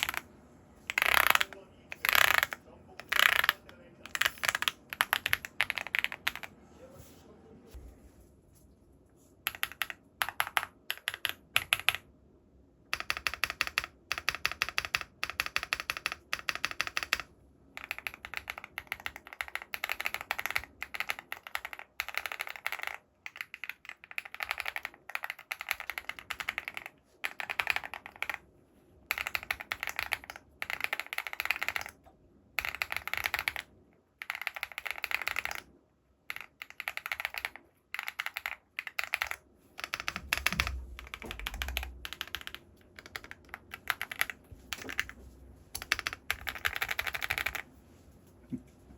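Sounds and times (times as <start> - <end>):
mechanical keyboard typing: 0.0 - 0.2, 0.9 - 6.5, 9.5 - 12.1, 12.9 - 28.5, 29.1 - 35.7, 36.3 - 45.2, 45.8 - 47.6.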